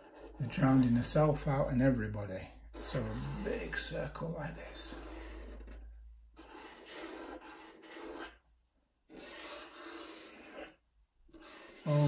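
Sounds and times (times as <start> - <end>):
marker pen rubbing on paper: 0.0 - 8.5, 9.1 - 12.0.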